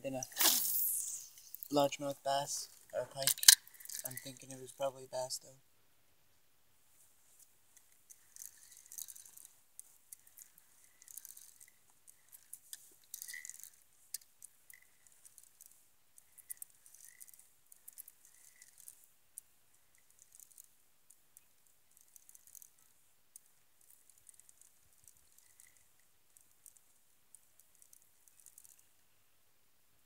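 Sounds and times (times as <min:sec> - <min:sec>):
faint small clicks and rattles: 0:00.1 - 0:05.6, 0:06.3 - 0:30.0.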